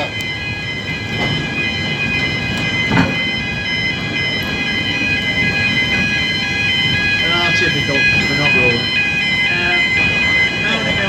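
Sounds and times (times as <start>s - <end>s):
steady high-pitched tones: 0.0s - 11.0s
train rumble: 0.0s - 11.0s.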